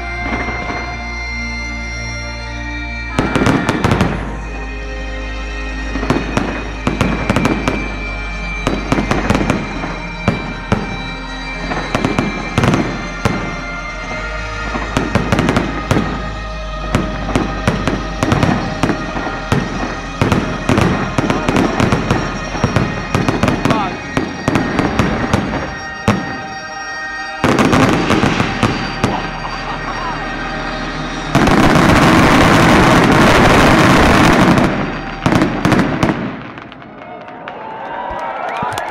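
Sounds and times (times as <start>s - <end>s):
music playing: 0.0s - 38.9s
fireworks bursting with bangs: 3.0s - 4.6s, 5.7s - 37.9s.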